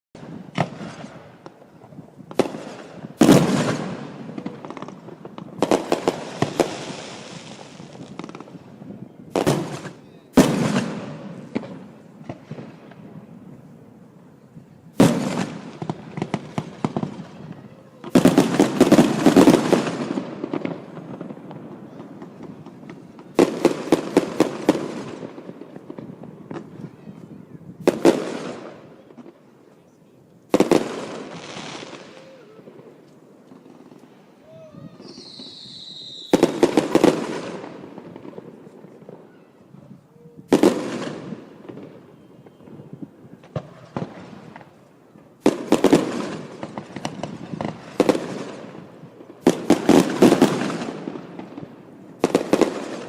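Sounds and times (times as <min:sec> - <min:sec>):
fireworks bangs and crackling: 0:00.2 - 0:53.0.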